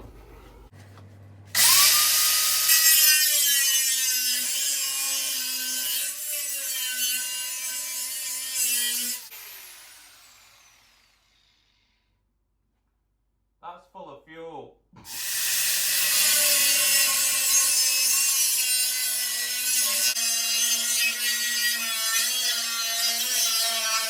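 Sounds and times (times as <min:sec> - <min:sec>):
angle grinder cutting steel: 0:01.6 - 0:12.0, 0:15.1 - 0:24.0.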